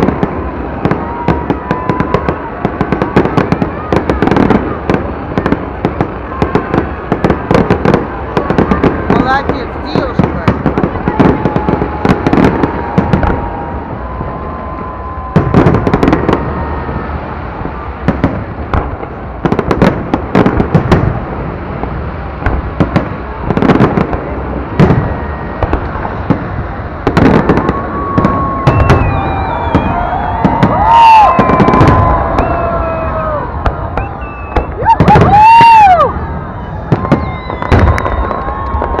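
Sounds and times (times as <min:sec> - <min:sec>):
fireworks booming and crackling: 0:00.0 - 0:39.0
fireworks whistling: 0:00.0 - 0:39.0.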